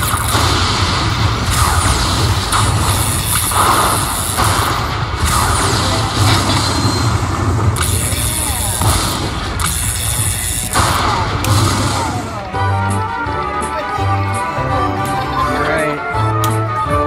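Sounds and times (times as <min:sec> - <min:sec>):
slot machine electronic music: 0:00.0 - 0:17.0.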